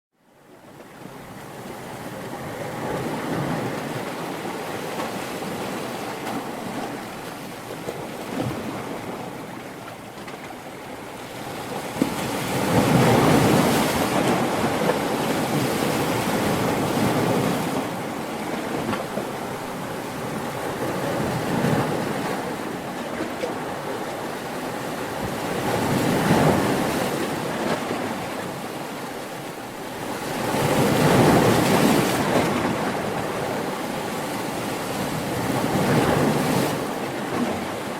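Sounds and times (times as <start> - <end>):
ocean waves breaking: 0.7 - 37.9.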